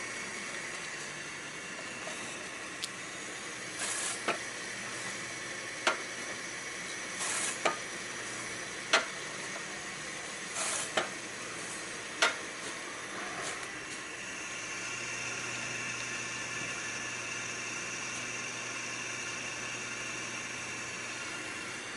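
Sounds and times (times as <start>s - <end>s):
bread slicer motor hum: 0.0s - 21.9s.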